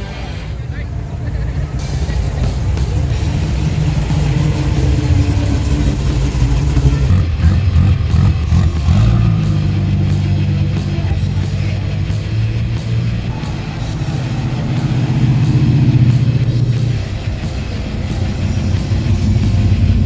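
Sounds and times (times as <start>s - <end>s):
background music: 0.0s - 20.0s
car engine idling: 0.0s - 20.0s.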